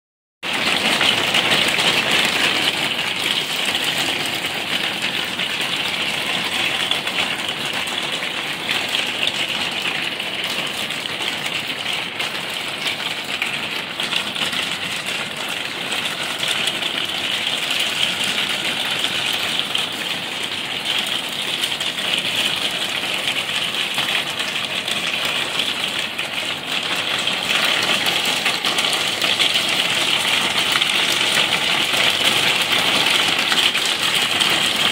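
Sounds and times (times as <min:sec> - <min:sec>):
hailstones pelting a wooden deck: 0:00.6 - 0:34.9.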